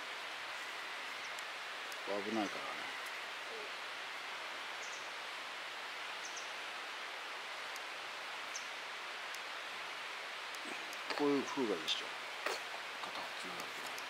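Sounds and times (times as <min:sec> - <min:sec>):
woodland background hiss: 0:00.0 - 0:14.0.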